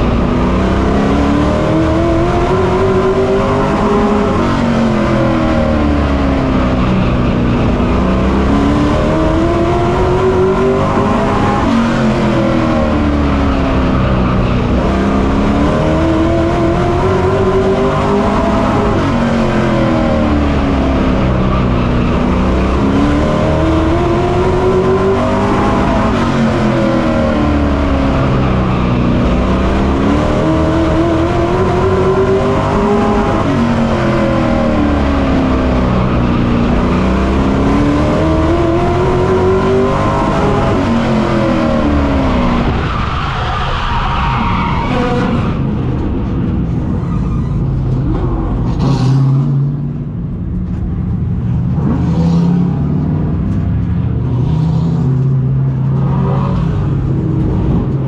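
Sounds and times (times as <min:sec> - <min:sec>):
race truck engine: 0:00.0 - 0:58.0.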